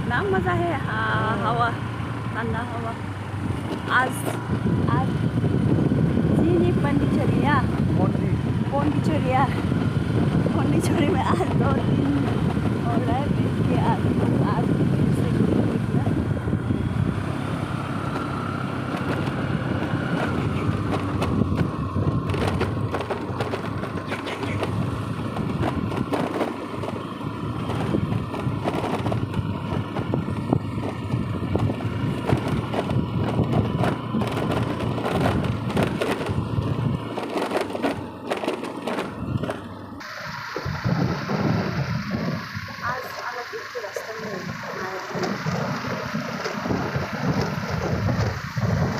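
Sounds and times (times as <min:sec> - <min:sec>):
road rumble: 0:00.0 - 0:48.9
wind buffeting microphone: 0:00.0 - 0:48.9.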